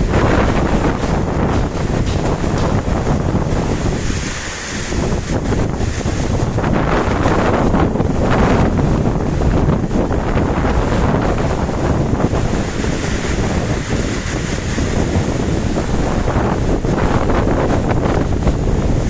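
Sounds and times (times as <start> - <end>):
heavy rain pouring: 0.0 - 19.0
wind buffeting microphone: 0.0 - 19.0.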